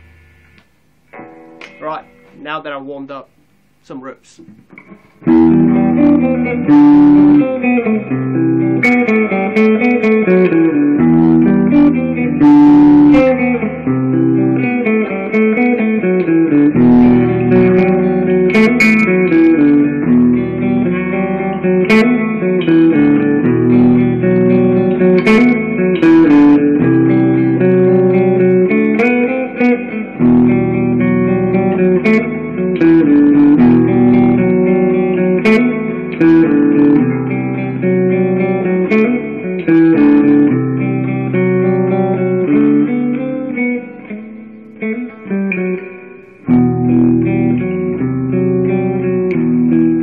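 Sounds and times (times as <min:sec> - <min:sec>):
electric guitar heavy metal riffs: 0:01.1 - 0:02.6, 0:04.2 - 0:50.0.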